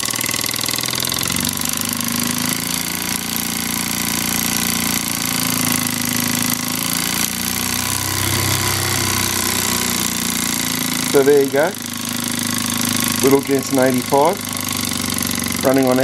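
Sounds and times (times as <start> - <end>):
toy steam engine running fast: 0.0 - 16.0.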